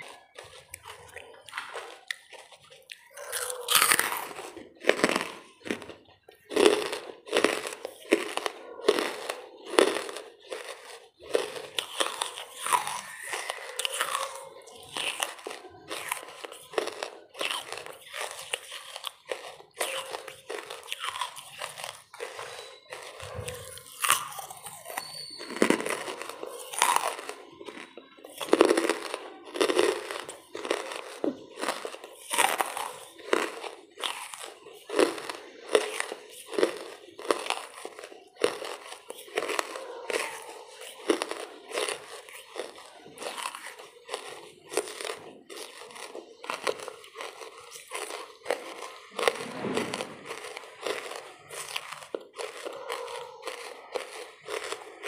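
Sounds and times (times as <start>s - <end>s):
person chewing charcoal crunches: 0.0s - 55.0s.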